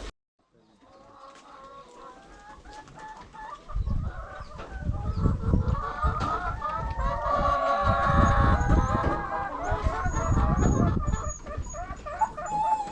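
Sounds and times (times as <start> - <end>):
chickens clucking: 0.6 - 12.9.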